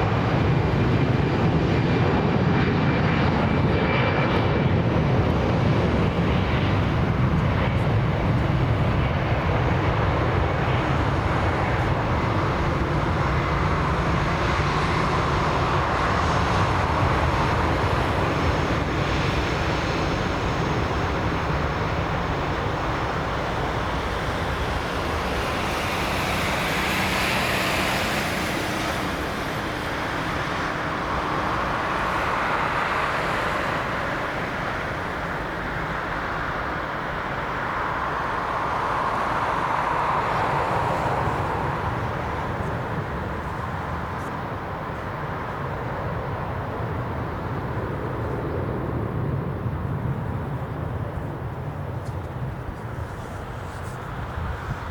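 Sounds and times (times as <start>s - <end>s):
jet airliner engines rumbling: 0.0s - 54.9s.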